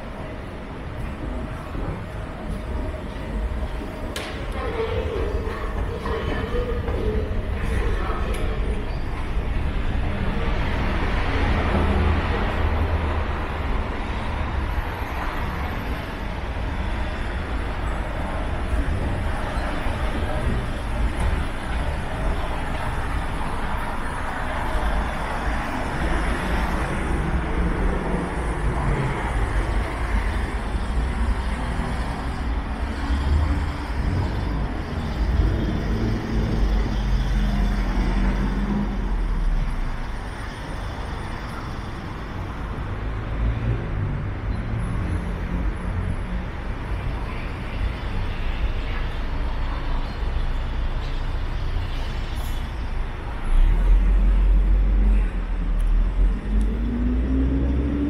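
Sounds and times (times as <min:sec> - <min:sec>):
passing road traffic: 0:00.0 - 0:58.0.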